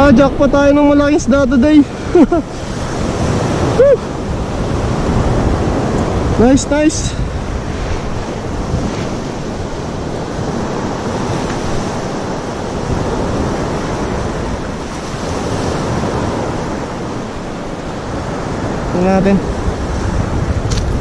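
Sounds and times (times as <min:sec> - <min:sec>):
surf washing on beach: 0:00.0 - 0:21.0
wind on microphone: 0:00.0 - 0:21.0.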